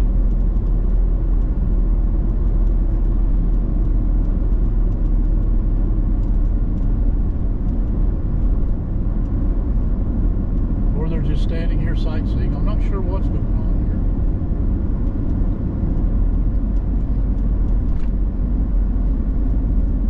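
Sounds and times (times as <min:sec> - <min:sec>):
engine and road noise rumble: 0:00.0 - 0:20.0.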